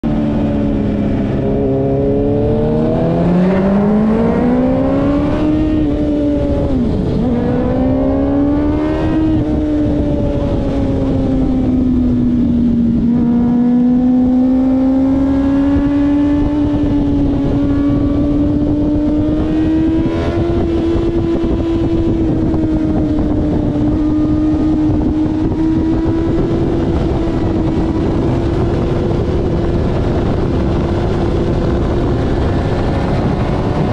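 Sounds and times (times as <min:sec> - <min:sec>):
motorcycle engine revving: 0:00.0 - 0:33.9
wind noise on microphone: 0:00.0 - 0:33.9.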